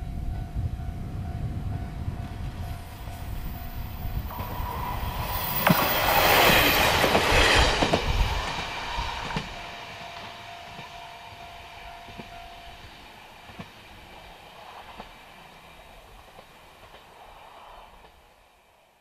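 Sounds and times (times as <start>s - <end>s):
diesel railcar passing: 0.0s - 19.0s.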